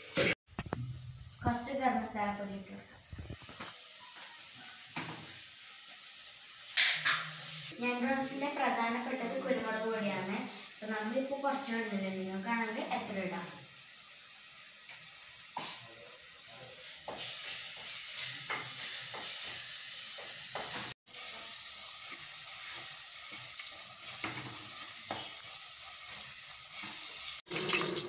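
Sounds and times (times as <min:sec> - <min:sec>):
masala sizzling in a pot: 0:00.0 - 0:28.0.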